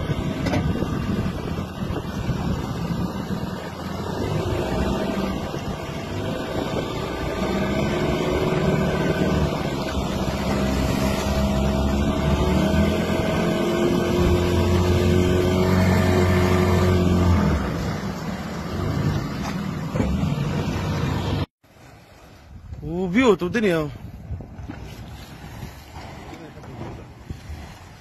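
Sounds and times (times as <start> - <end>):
motorboat engine running: 0.0 - 22.8, 24.0 - 28.0
water rushing: 0.0 - 28.0
wind: 0.0 - 28.0.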